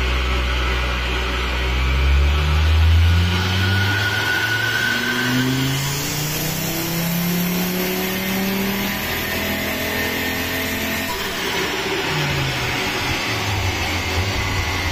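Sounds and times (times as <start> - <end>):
car engine revving on dyno: 0.0 - 14.9.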